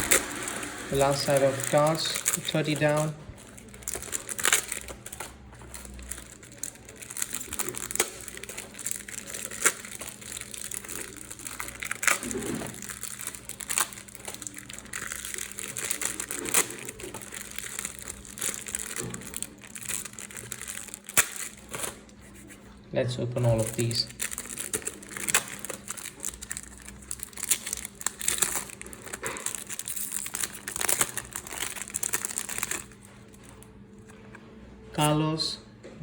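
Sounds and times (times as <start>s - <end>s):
plastic wrappers crinkling: 0.0s - 22.7s, 23.3s - 34.6s.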